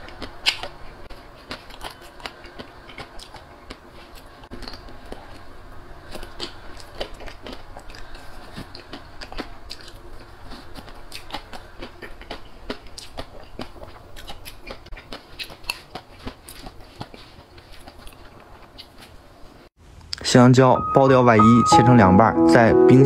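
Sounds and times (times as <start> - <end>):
chewing crunchy chocolate shell: 0.0 - 19.2.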